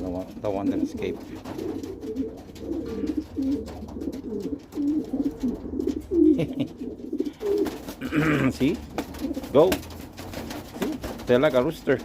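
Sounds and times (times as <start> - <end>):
pigeons cooing: 0.0 - 11.6.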